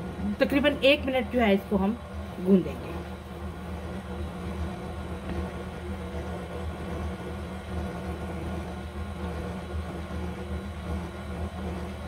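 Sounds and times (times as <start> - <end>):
stand mixer motor humming: 0.0 - 12.0.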